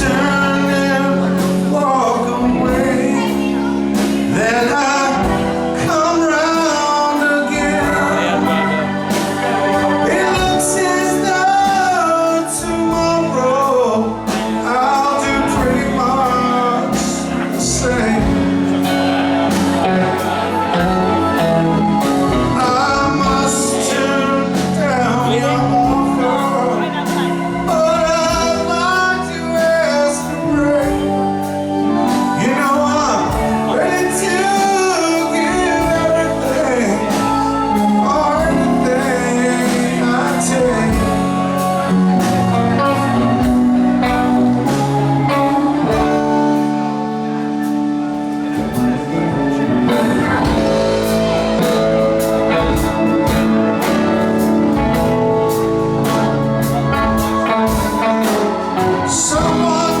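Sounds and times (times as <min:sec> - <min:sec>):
band playing live: 0:00.0 - 1:00.0
lead singing: 0:00.0 - 1:00.0.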